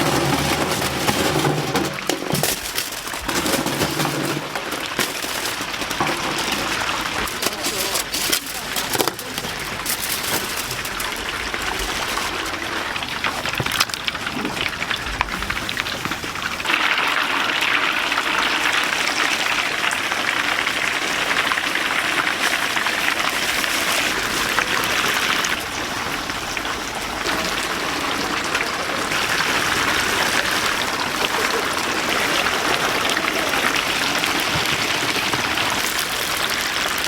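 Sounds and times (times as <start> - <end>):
deep-frying oil sizzling: 0.0 - 37.0.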